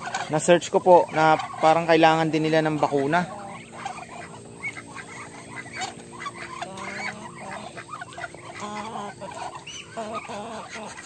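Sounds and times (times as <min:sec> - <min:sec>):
poultry calling: 0:00.0 - 0:11.0.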